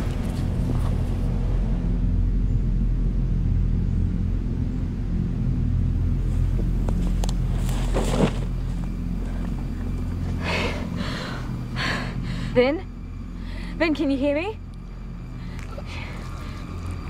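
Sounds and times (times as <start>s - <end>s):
low droning rumble: 0.0s - 17.0s.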